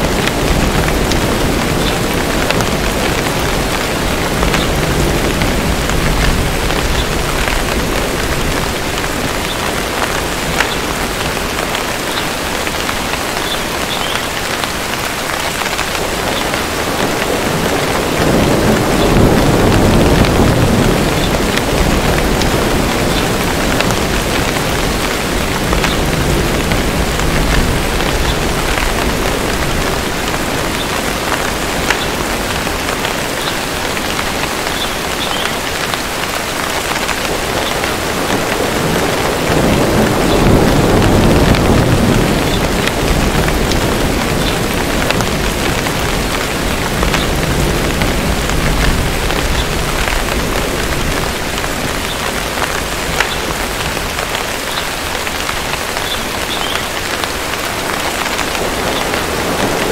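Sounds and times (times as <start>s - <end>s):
distant thunder rumble: 0.0s - 12.5s, 15.6s - 56.4s
heavy rainfall: 0.0s - 59.9s.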